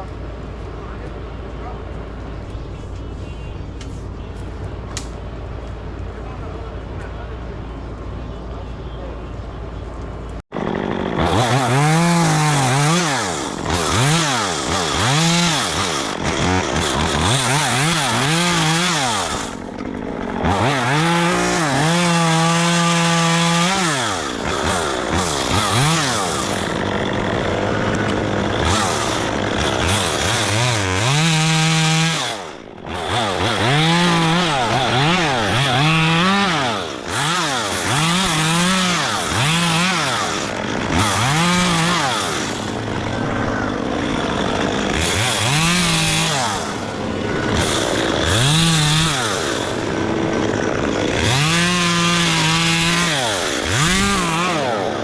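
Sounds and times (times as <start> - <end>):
chainsaw cutting wood: 10.5 - 55.0.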